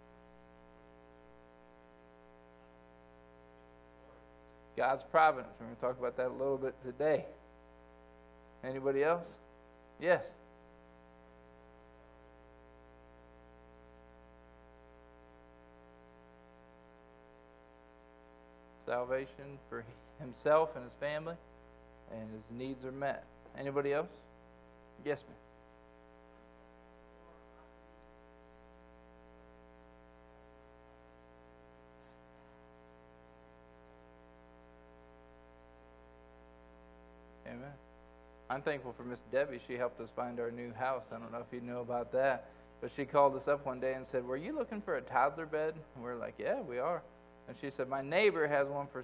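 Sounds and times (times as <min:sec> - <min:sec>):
electrical hum: 0:00.0 - 0:49.0
faint high whine: 0:00.0 - 0:49.0.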